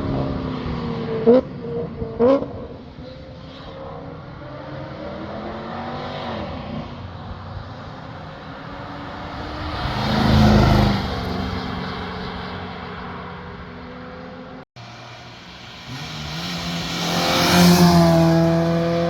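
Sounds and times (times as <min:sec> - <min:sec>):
cars driving past accelerating: 0:00.0 - 0:19.0.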